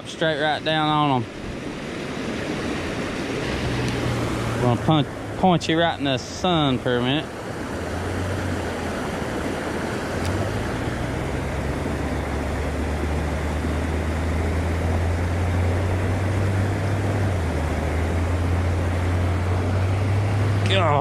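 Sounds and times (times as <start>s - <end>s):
low motor drone: 0.0s - 21.0s.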